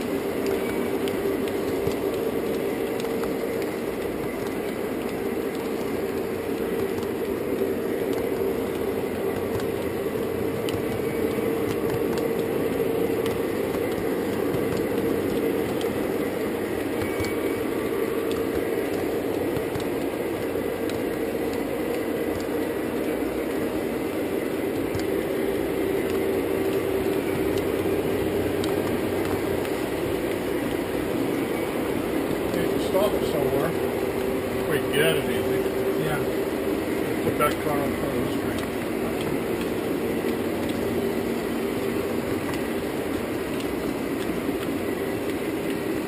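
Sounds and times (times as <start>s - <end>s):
model train rolling on track: 0.0s - 46.0s.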